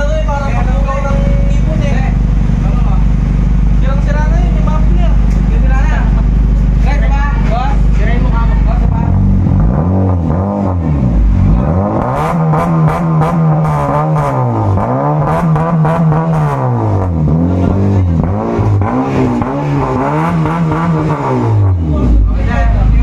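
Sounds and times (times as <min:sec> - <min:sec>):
car engine revving: 0:00.0 - 0:23.0
exhaust crackles: 0:00.0 - 0:23.0.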